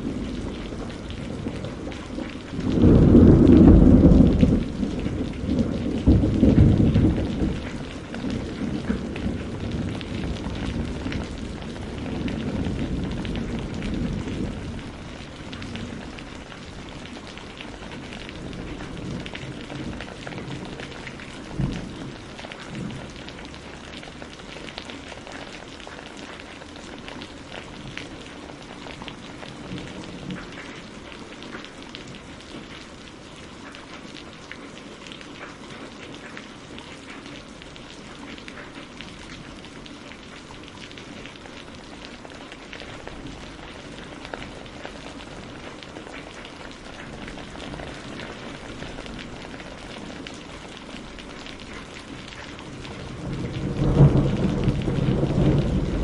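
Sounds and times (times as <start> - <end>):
rain pattering on a greenhouse roof: 0.0 - 56.0.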